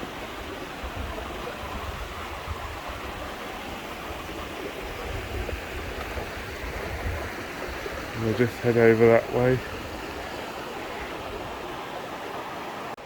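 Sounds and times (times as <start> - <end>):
river and waterfalls rushing: 0.0 - 13.0.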